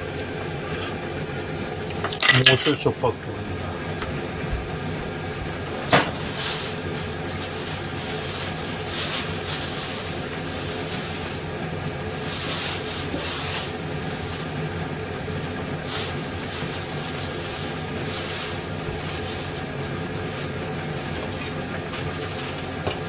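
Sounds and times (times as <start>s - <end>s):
gas burner hiss and hum: 0.0s - 23.0s.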